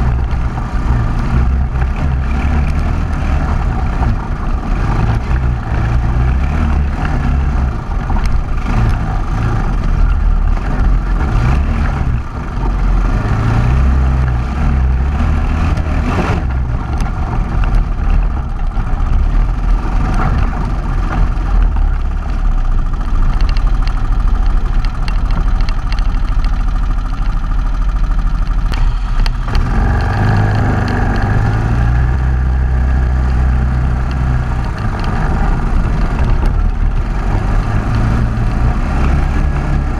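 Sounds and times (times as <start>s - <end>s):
all-terrain vehicle engine running: 0.0s - 39.9s
wind noise on microphone: 0.0s - 39.9s.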